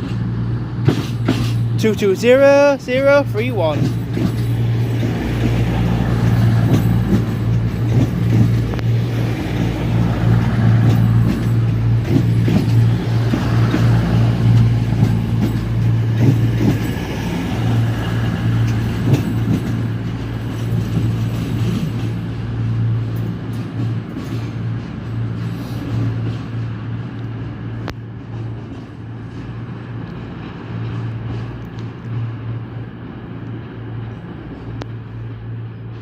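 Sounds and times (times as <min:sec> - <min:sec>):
train diesel engine humming: 0:00.0 - 0:36.0.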